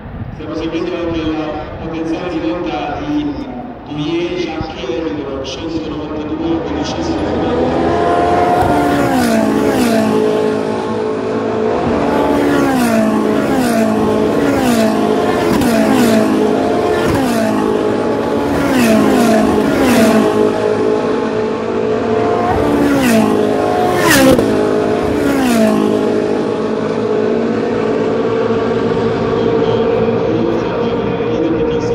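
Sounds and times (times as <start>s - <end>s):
racing car engines at high revs: 1.8s - 31.9s.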